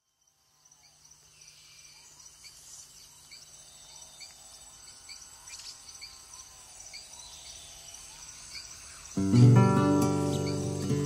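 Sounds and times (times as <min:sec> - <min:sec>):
crickets trilling and chirping: 0:00.0 - 0:11.0.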